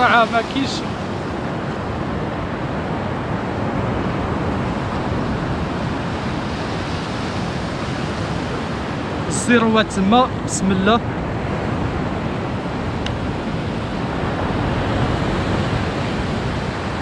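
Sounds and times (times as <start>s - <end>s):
sea surf washing on shore: 0.0s - 17.0s
wind on microphone: 0.0s - 17.0s.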